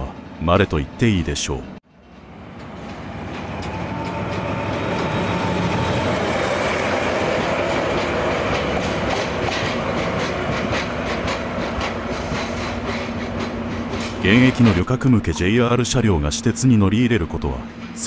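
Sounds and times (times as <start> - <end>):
train wheel and rail noise: 0.0 - 18.0.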